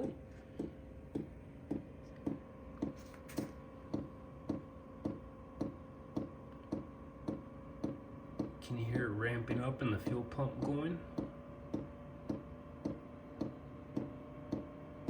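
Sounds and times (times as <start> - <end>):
heater whine: 0.0 - 15.0.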